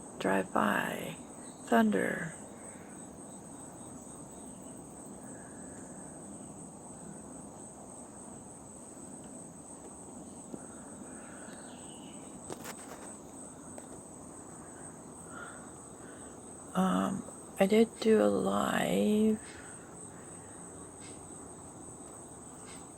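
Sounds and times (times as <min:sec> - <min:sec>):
insect chorus trilling: 0:00.0 - 0:22.9.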